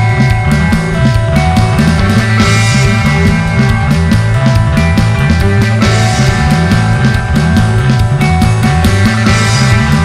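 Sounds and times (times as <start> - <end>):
bass line: 0.0 - 10.0
loud rock music: 0.0 - 10.0
steady drum beat: 0.0 - 10.0.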